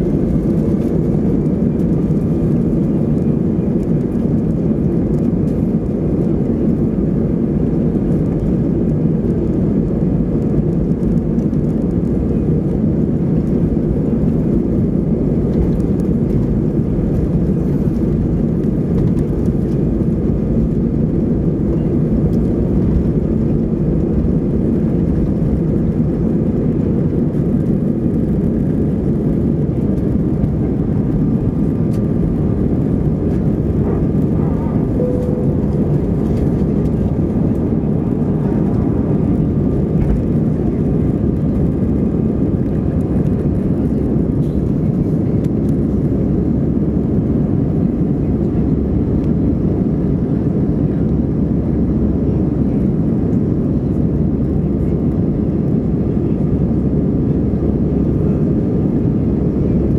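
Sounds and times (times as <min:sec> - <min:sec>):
faint engine whine: 0:00.0 - 0:59.9
jet engines rumbling: 0:00.0 - 0:59.9.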